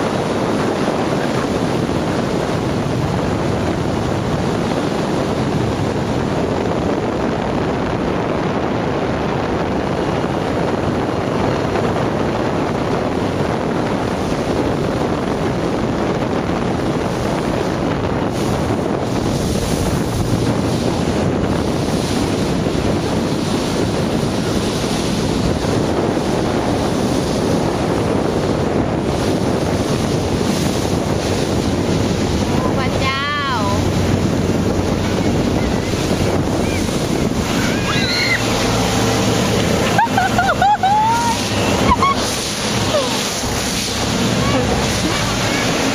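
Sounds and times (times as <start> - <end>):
boat engine: 0.0 - 45.9
water churning past a boat: 0.0 - 45.9
wind buffeting the microphone: 0.0 - 45.9.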